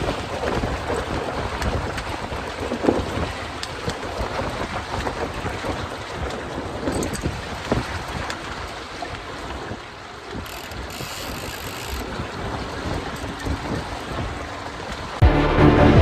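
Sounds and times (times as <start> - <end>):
wind buffeting microphone: 0.0 - 15.2
water and boat noise: 0.0 - 16.0.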